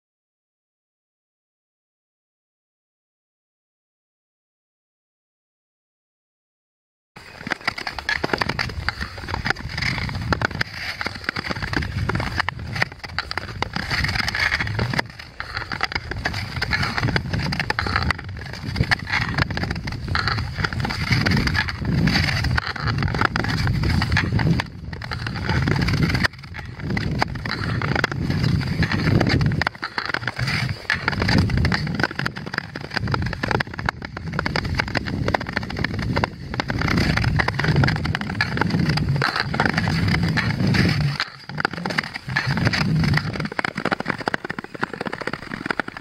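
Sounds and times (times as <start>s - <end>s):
ice skate blades scraping ice: 7.2s - 46.0s.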